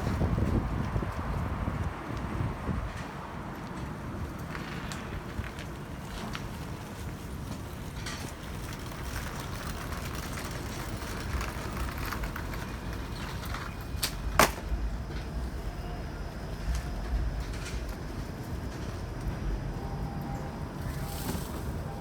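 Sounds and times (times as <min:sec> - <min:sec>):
traffic noise: 0:00.0 - 0:22.0
wind rumbling on microphone: 0:00.0 - 0:22.0.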